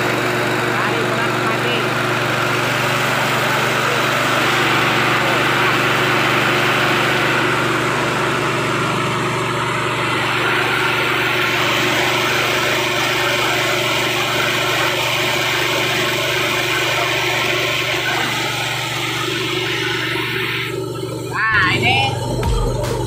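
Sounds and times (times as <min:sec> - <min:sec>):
rice mill humming: 0:00.0 - 0:23.0.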